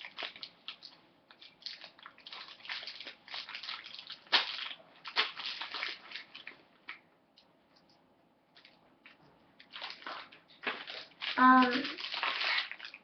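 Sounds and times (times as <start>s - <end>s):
plastic packaging crinkling: 0.0s - 7.1s, 8.5s - 13.0s.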